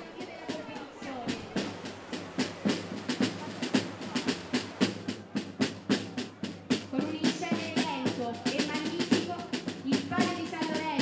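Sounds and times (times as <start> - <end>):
drums beating march rhythm: 0.0 - 11.0
people's voices: 0.0 - 11.0.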